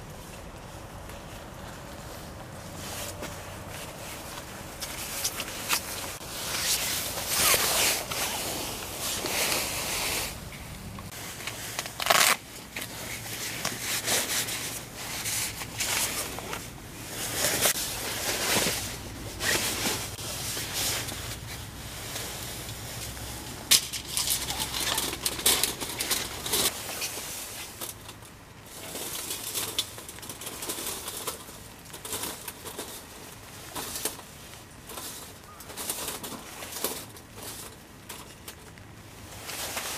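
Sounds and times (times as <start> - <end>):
rustling and scraping of windscreen: 0.0 - 39.9.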